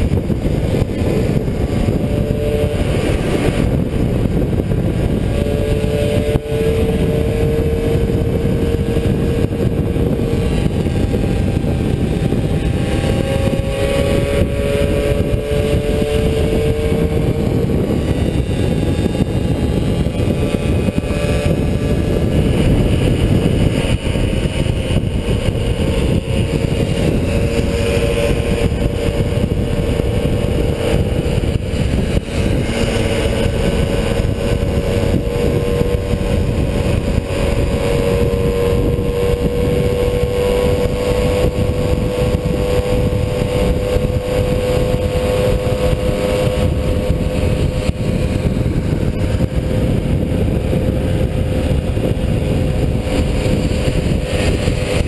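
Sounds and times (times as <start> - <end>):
moped engine running: 0.0 - 55.0
wind rumble on microphone: 0.0 - 55.0.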